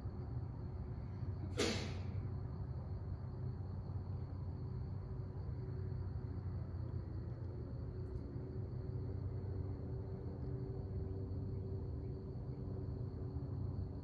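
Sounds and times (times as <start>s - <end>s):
constant low rumble: 0.0s - 14.0s
insect drone: 0.0s - 14.0s.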